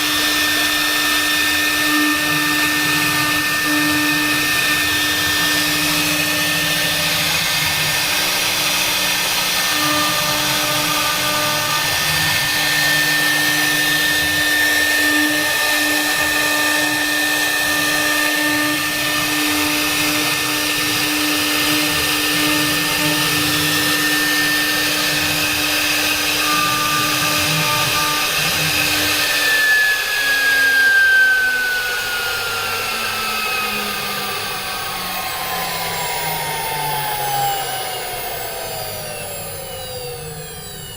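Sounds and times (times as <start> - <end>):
router spindle whining while cutting: 0.0 - 40.9.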